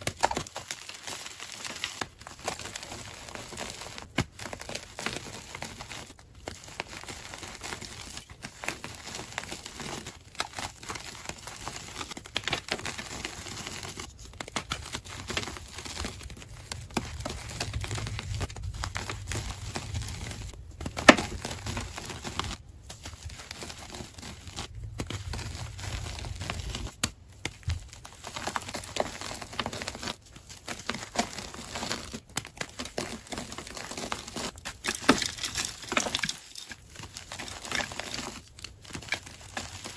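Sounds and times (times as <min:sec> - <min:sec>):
chalk crunching and crumbling: 0:00.0 - 0:39.9.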